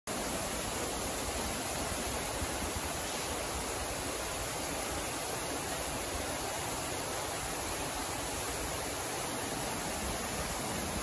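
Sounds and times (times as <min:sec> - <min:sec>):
waterfall rushing into pool: 0:00.1 - 0:11.0.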